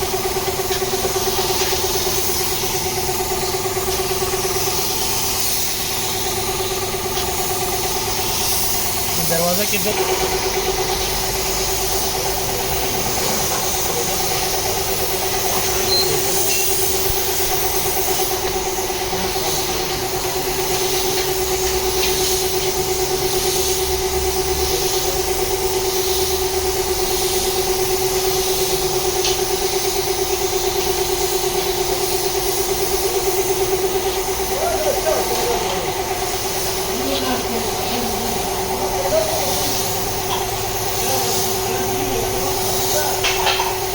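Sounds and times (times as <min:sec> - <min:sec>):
hiss: 0:00.0 - 0:43.9
small motor running: 0:00.0 - 0:43.9.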